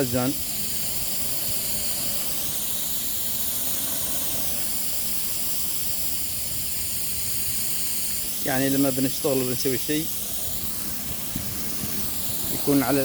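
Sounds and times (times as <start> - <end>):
water jet spraying into tank: 0.0 - 13.0.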